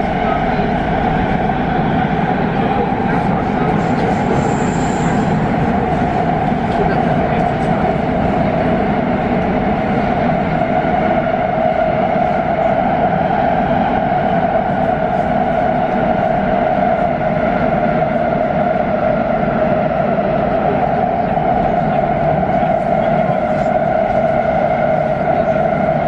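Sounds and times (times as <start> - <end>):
metro train wheels rumbling: 0.0 - 26.0
train whine: 0.0 - 26.0.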